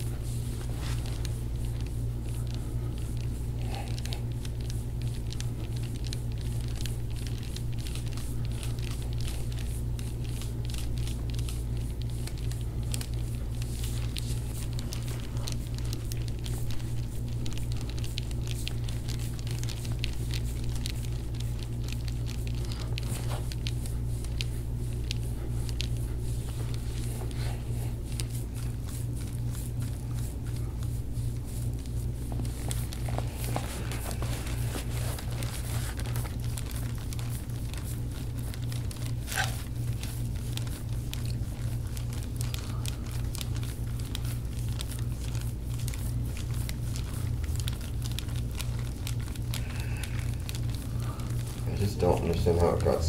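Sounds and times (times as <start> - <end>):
massage crackling and rustling: 0.0 - 53.0
steady low hum: 0.0 - 53.0.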